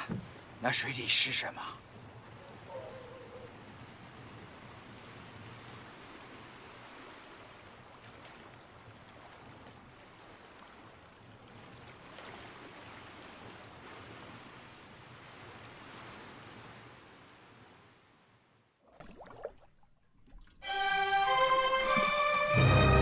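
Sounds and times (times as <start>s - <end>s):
river water lapping: 0.0s - 23.0s.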